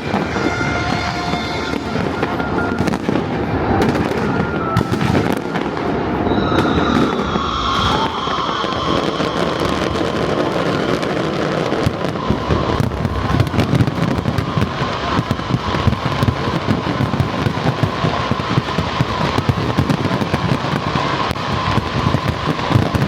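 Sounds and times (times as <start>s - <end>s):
firework shell bursts crackling: 0.0s - 23.0s
low rumble of explosions: 0.0s - 23.0s.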